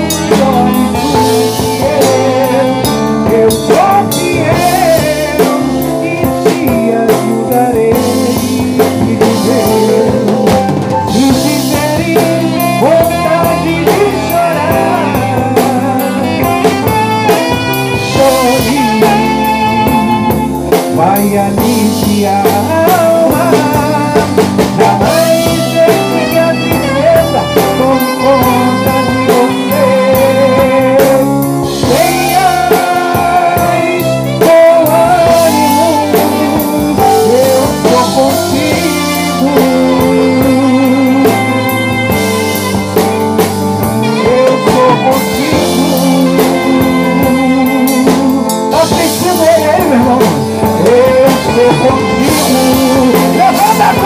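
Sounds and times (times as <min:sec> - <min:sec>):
backing music with drums and guitar: 0:00.0 - 0:54.0
man singing into microphone: 0:00.0 - 0:54.0.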